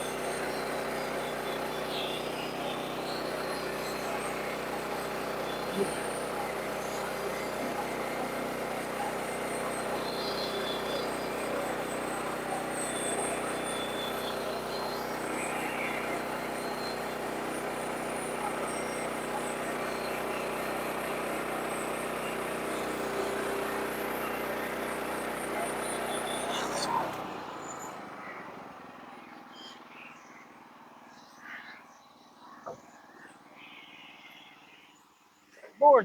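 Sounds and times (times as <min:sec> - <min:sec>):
sawmill engine humming: 0:00.0 - 0:29.2.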